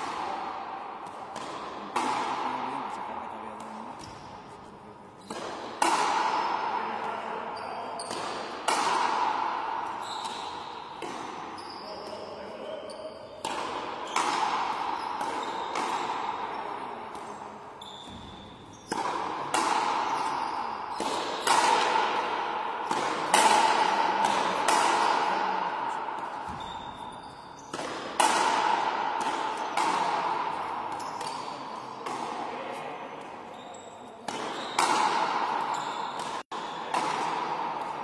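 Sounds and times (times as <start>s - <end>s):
ball striking racquet and wall: 0.0s - 4.6s, 5.2s - 38.0s.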